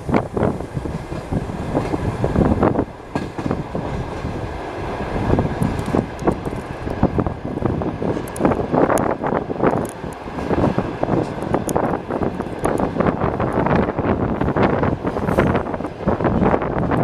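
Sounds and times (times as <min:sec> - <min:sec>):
train wheels rumbling on rails: 0:00.0 - 0:17.0
wheels clacking over rail joints: 0:00.0 - 0:17.0.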